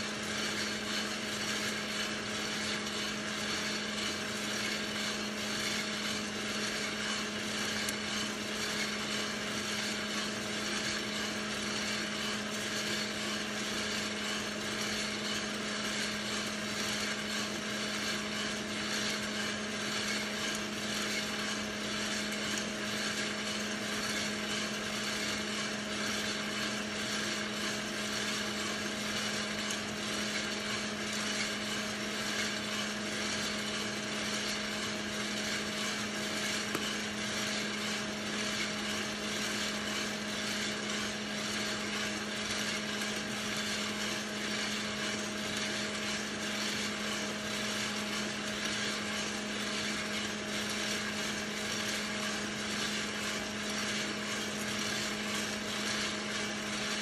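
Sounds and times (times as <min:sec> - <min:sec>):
motor and fan hum: 0:00.0 - 0:57.0
coffee beans rattling in drum: 0:00.1 - 0:57.0.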